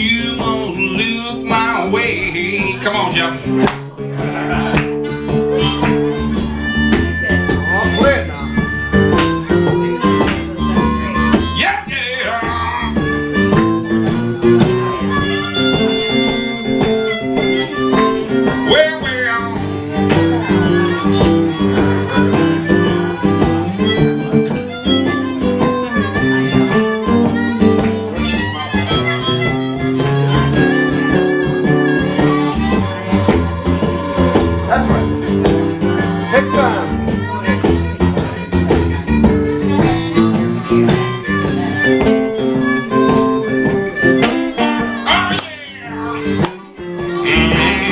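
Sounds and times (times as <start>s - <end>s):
harmonica playing: 0.0s - 47.9s
strummed acoustic guitar: 0.0s - 47.9s.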